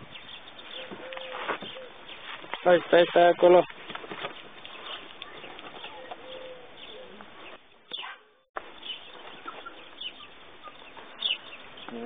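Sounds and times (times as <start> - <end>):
birds chirping and cooing: 0.0 - 2.4, 3.0 - 12.0.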